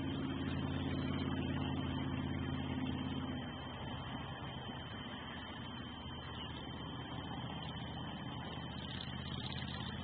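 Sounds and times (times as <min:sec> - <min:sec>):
low mechanical hum and rumble: 0:00.0 - 0:10.0
thin high whine: 0:00.0 - 0:10.0.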